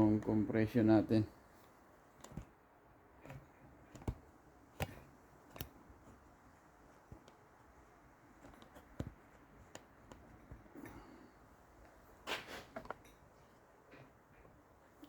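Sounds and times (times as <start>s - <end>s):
light sharp clicks and taps: 1.6s - 2.6s, 3.2s - 15.0s.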